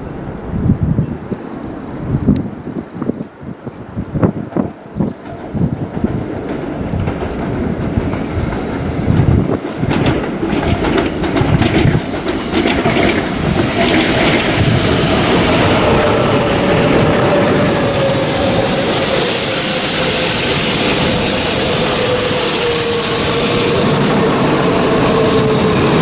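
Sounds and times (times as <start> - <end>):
train rumbling and hissing: 0.0 - 26.0.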